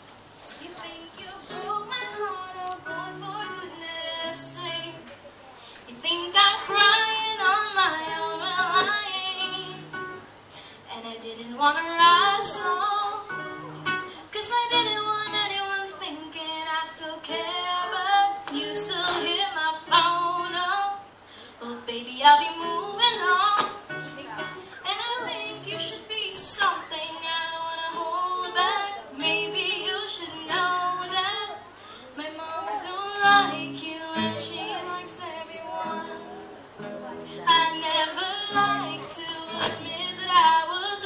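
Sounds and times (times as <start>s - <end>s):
acoustic guitars playing chords: 0.0s - 41.0s
girl singing pop song: 0.4s - 41.0s.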